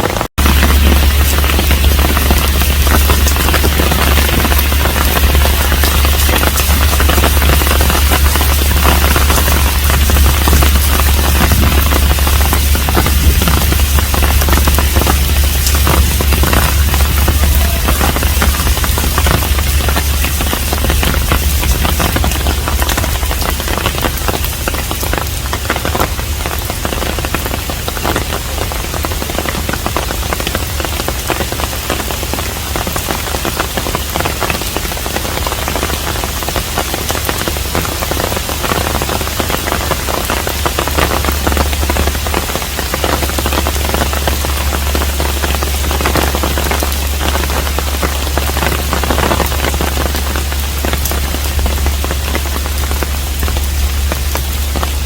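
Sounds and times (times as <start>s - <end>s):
rain hissing: 0.0s - 55.0s
raindrops pattering: 0.0s - 55.0s
steady low rumble: 0.0s - 55.0s.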